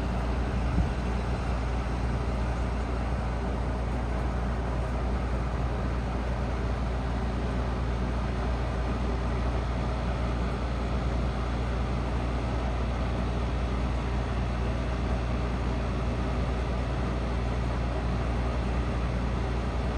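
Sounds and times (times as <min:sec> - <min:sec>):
heat pump compressor hum: 0:00.0 - 0:19.9.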